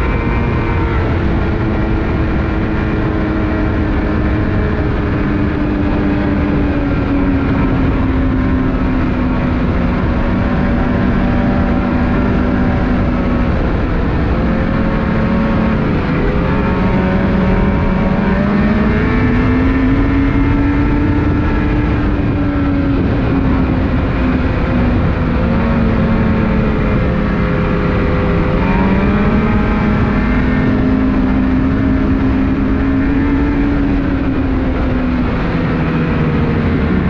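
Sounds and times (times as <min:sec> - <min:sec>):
snowmobile engine running: 0:00.0 - 0:37.0
snowmobile track noise: 0:00.0 - 0:37.0.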